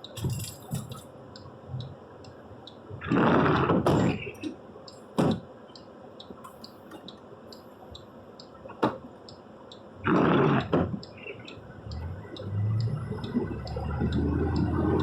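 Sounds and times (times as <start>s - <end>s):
light ticking: 0.0s - 10.0s, 10.6s - 15.0s.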